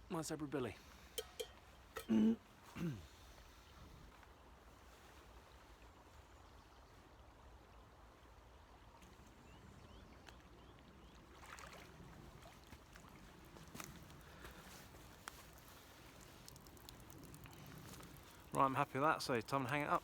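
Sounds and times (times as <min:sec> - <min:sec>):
faint water sounds: 0:00.0 - 0:20.0.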